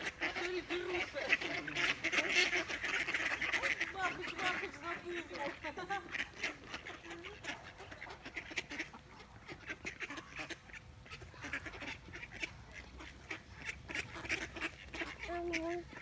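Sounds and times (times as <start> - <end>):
ducks quacking: 0.0 - 16.0
low steady duck call: 0.0 - 16.0.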